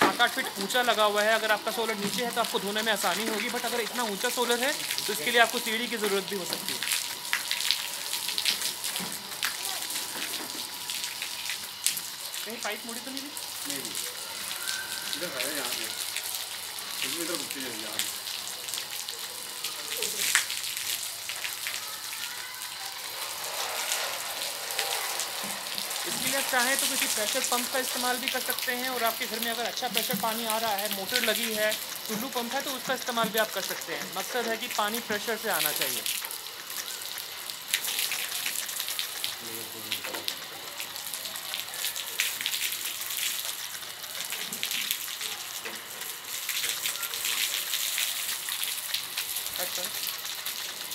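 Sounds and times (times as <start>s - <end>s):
hose water spraying on glass: 0.0s - 50.9s.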